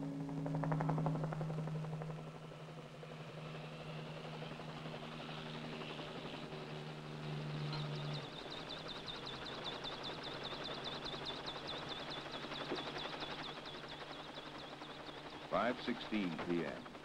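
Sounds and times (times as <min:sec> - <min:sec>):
helicopter engine drone: 0:00.0 - 0:17.0.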